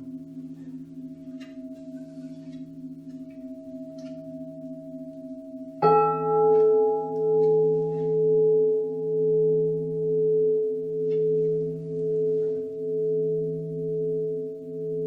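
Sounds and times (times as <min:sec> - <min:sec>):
bowl being struck: 0:00.0 - 0:15.0
singing bowls ringing: 0:00.0 - 0:15.0.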